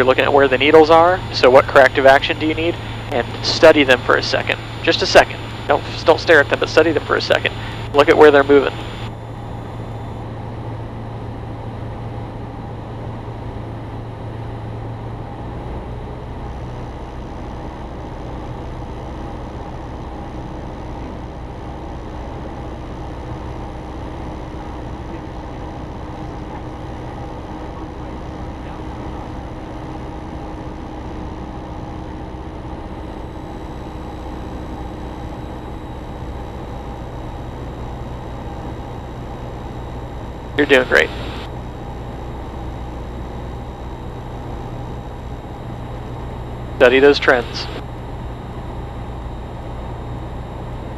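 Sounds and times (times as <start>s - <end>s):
propeller plane engine droning: 0.0s - 50.9s.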